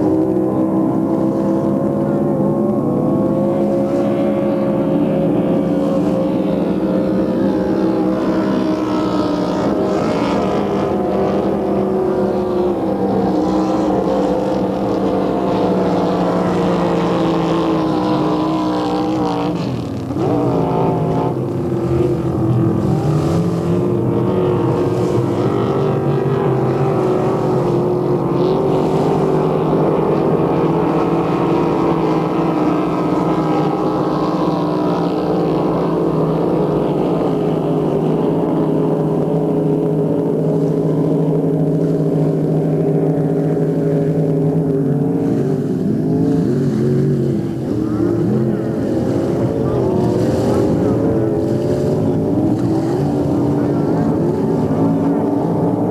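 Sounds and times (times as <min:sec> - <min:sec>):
motorboat engine running: 0:00.0 - 0:55.9.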